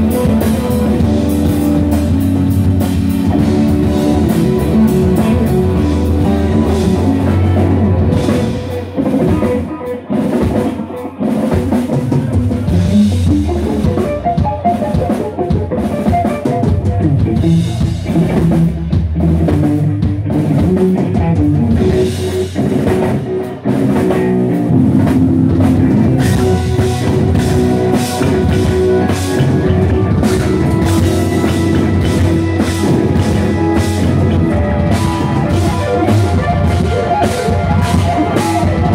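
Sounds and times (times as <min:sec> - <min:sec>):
drum kit beat: 0:00.0 - 0:38.9
live rock band playing: 0:00.0 - 0:38.9.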